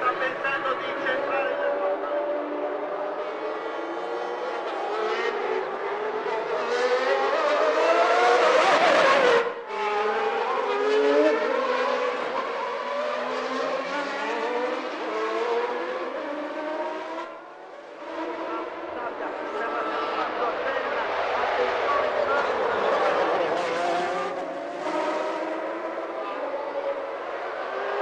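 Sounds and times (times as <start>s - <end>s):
racing car engines: 0.0s - 28.0s.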